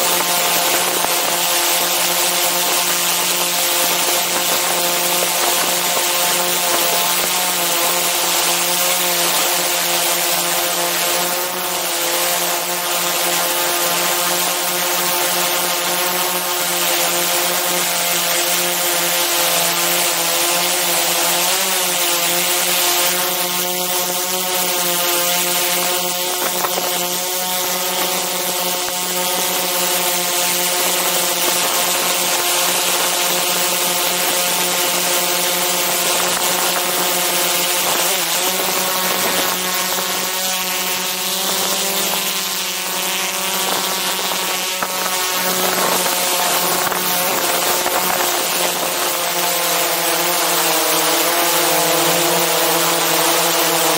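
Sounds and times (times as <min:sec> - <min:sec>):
drone propellers buzzing: 0:00.0 - 0:53.9.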